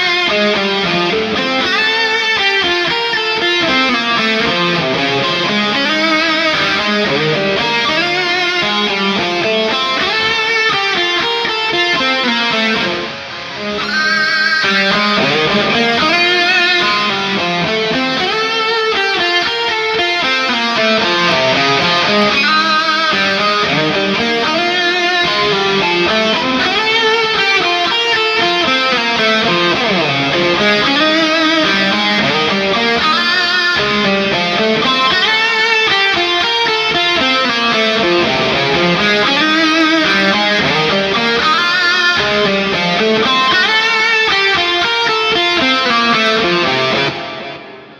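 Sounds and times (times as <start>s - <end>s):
electric guitar melodic lines: 0.0s - 47.9s.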